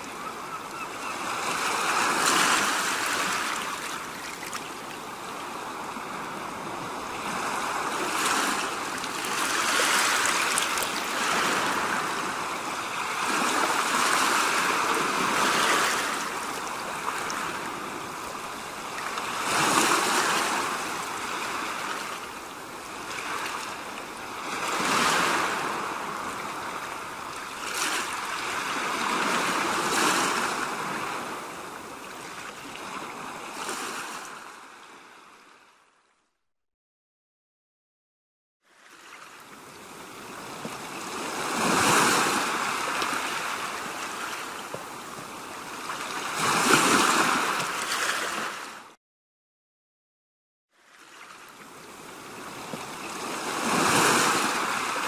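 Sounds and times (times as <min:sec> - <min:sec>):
sea waves breaking on shore: 0:00.0 - 0:35.7, 0:38.6 - 0:49.0, 0:50.7 - 0:55.0.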